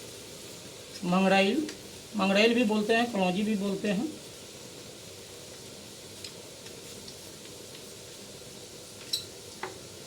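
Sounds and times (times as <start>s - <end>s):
spices sizzling in oil: 0.0s - 10.0s.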